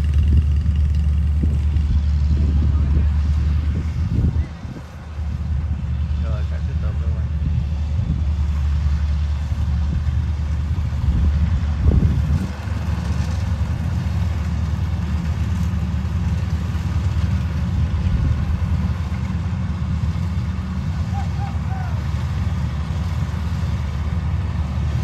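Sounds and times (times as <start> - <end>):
combine harvester diesel engine: 0.0 - 25.0.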